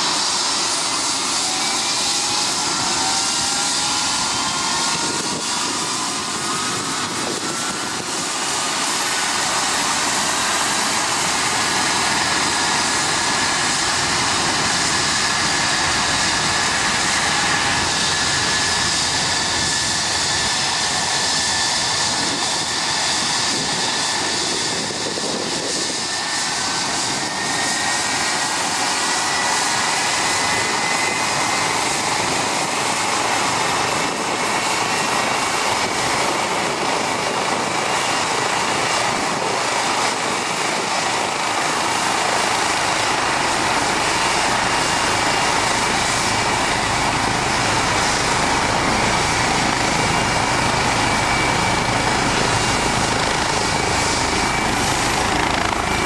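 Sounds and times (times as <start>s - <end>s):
helicopter turbine and rotor noise: 0.0s - 56.0s
high turbine whine: 0.0s - 56.0s.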